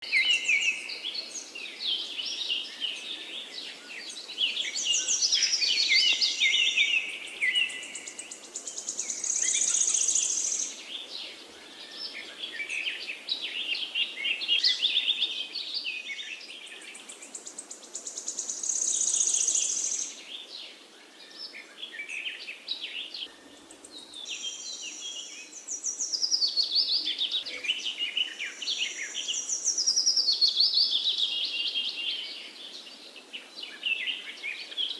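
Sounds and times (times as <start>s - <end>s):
songbirds chirping and singing: 0.0s - 34.9s.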